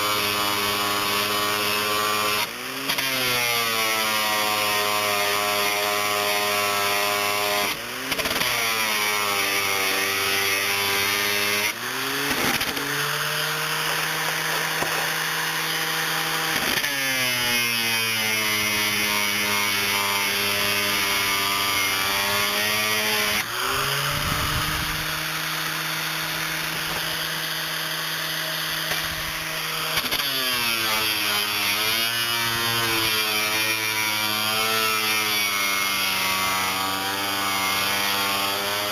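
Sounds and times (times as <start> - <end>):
angle grinder grinding wood: 0.0 - 38.9.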